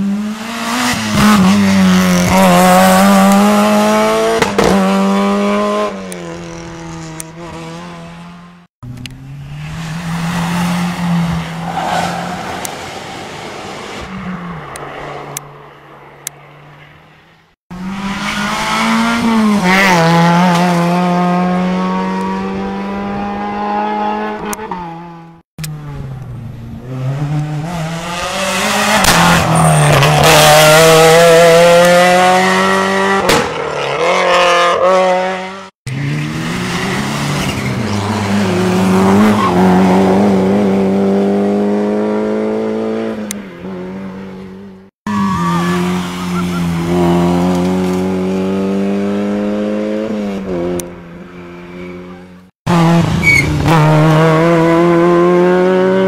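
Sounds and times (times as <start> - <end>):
rally car engines revving high: 0.0 - 15.4, 17.7 - 56.0.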